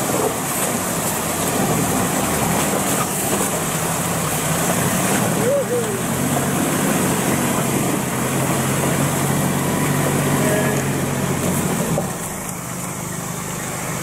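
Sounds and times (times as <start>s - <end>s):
vehicle engine running: 0.0s - 14.0s
water splashing around tyres: 0.0s - 14.0s.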